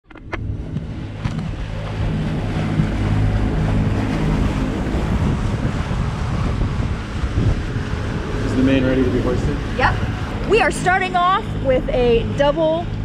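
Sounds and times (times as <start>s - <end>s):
wind buffeting microphone: 0.0s - 13.0s
low steady hum: 0.1s - 13.0s
waves rushing: 0.2s - 13.0s.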